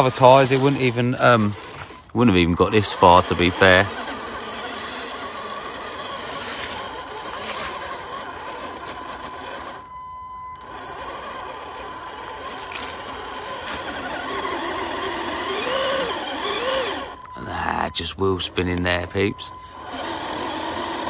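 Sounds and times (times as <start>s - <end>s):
electric motor and gearbox whining: 0.0s - 21.0s.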